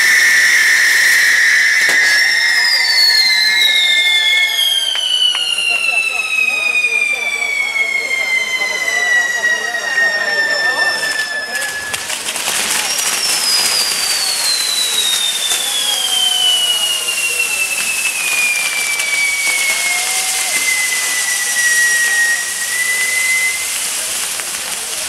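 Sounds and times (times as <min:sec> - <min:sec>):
fireworks hissing and crackling: 0:00.0 - 0:25.0
long falling firework whistle: 0:00.0 - 0:25.0.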